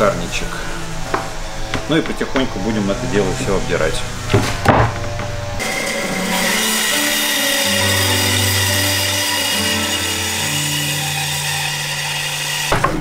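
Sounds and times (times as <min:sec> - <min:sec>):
band saw cutting wood: 0:00.0 - 0:13.0.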